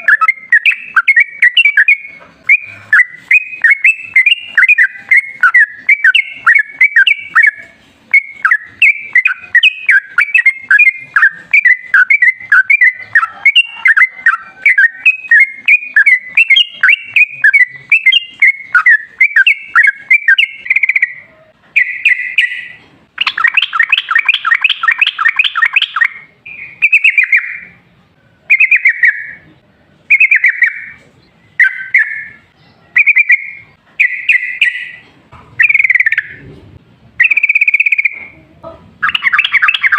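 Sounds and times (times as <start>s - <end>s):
bird chattering song: 0.0s - 27.9s, 28.5s - 35.0s, 35.6s - 39.9s.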